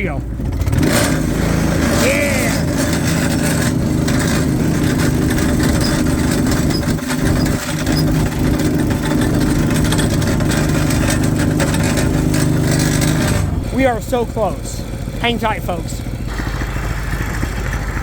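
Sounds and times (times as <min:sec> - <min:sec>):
vehicle engine running under load: 0:00.0 - 0:18.0.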